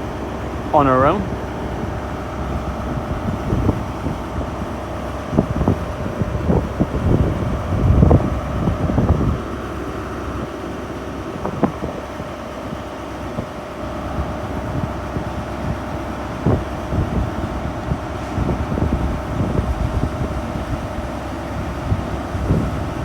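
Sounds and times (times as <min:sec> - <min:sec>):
train diesel engines humming: 0:00.0 - 0:23.0
wind buffeting microphone: 0:01.3 - 0:23.0.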